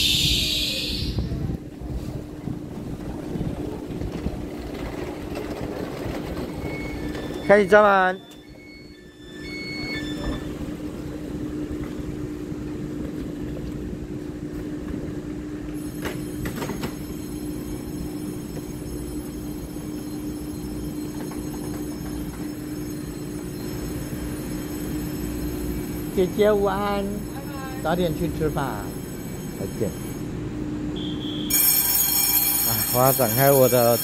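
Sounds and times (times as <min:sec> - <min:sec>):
electric train equipment humming: 0:00.0 - 0:34.0.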